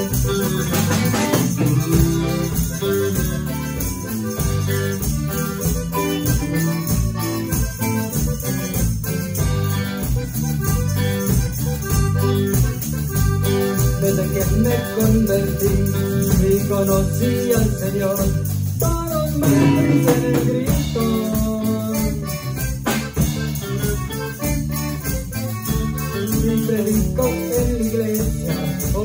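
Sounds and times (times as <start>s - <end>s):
accordion melody: 0.0s - 29.0s
drum kit: 0.0s - 29.0s
electric bass: 0.0s - 29.0s
guitar: 0.0s - 29.0s.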